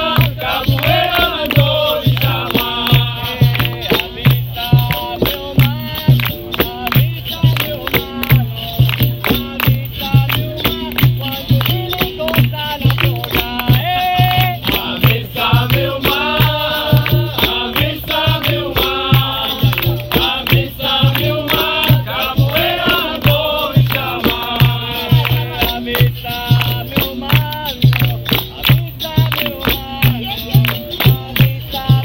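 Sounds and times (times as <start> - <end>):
group singing: 0.0 - 32.0
shaker rattling: 0.0 - 32.0
tambourine jingles: 0.0 - 32.0.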